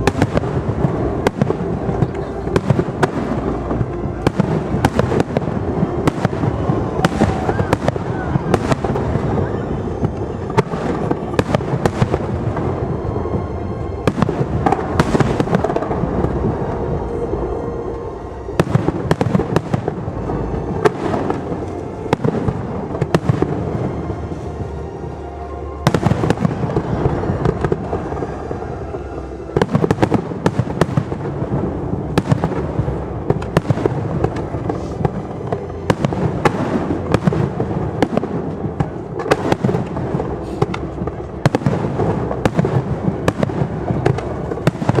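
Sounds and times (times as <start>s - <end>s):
fireworks bursts and crackles: 0.0s - 45.0s.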